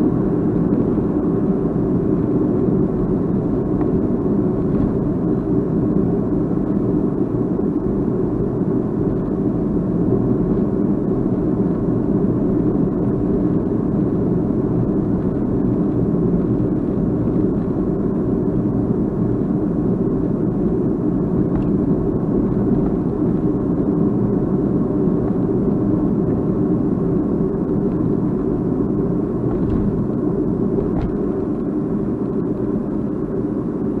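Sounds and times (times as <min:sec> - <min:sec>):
vehicle engine rumble: 0:00.0 - 0:34.0.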